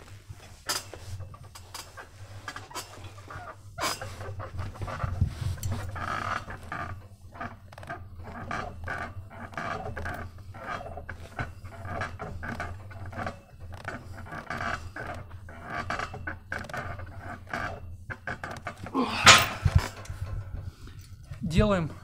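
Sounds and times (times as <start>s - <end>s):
heavy rhythmic breathing: 0.0s - 22.0s
steady low hum: 0.0s - 22.0s.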